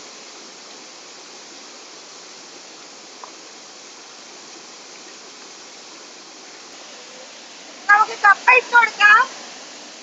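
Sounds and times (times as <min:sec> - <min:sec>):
stream flowing over rocks: 0:00.0 - 0:10.0.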